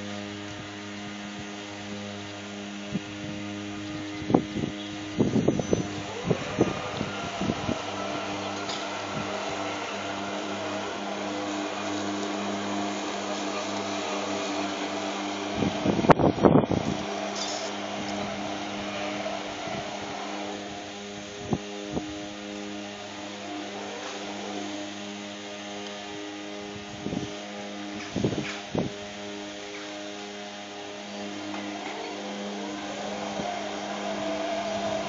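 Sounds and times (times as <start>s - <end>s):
robotic lawnmower motor hum: 0.0s - 35.0s.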